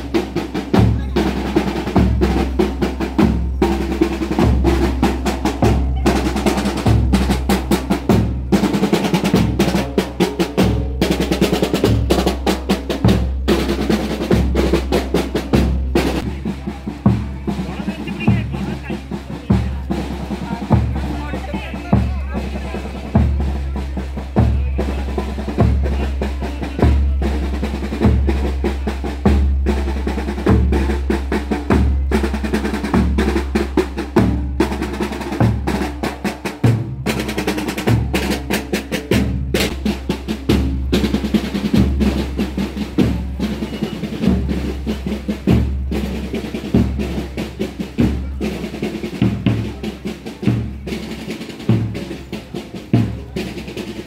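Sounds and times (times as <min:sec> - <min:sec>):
bass drum beat: 0:00.0 - 0:54.0.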